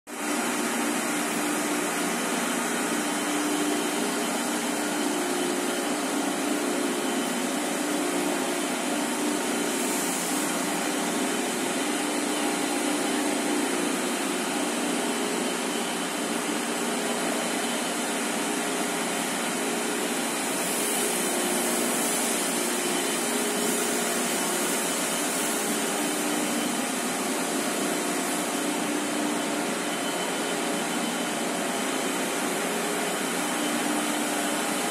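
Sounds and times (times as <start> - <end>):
machine whirring: 0.1 - 34.9
thin high whine: 0.1 - 34.9.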